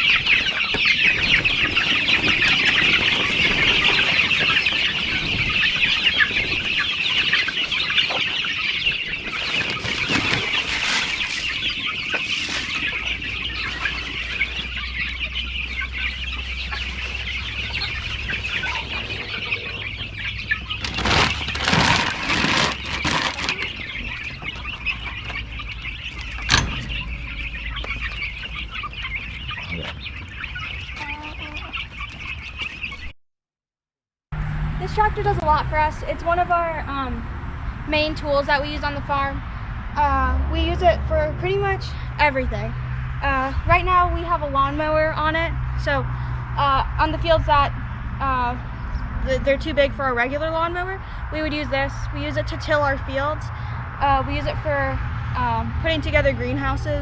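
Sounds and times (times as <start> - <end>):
chickens clucking: 0.0 - 33.2, 34.8 - 57.0.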